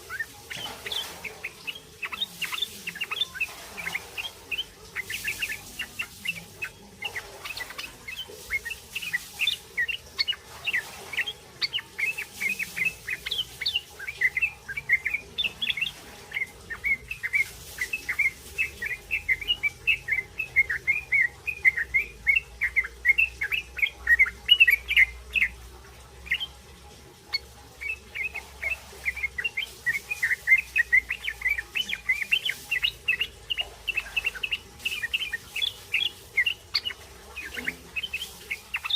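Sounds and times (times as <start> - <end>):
bird chattering high chirps: 0.0 - 25.6, 27.3 - 38.9.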